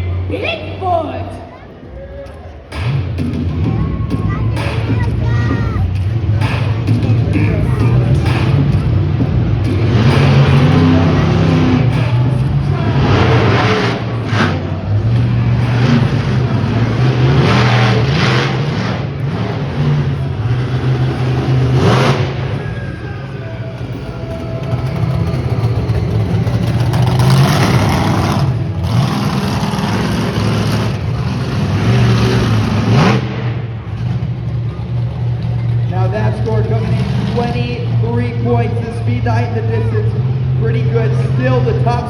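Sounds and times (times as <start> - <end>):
monster truck engine revving: 1.4 - 42.0
loud engine bursts: 2.6 - 42.0.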